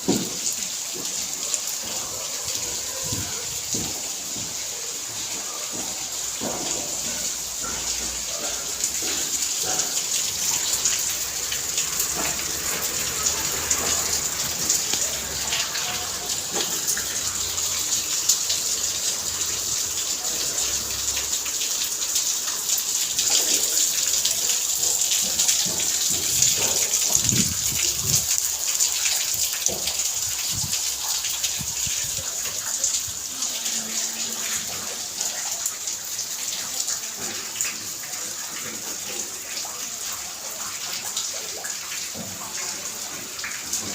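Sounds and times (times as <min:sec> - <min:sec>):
steady rain: 0:00.0 - 0:43.9.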